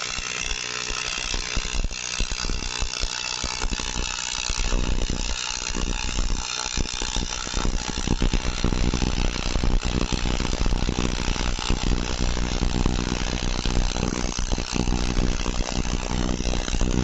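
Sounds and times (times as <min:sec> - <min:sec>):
welding arc buzzing and crackling: 0:00.0 - 0:17.0.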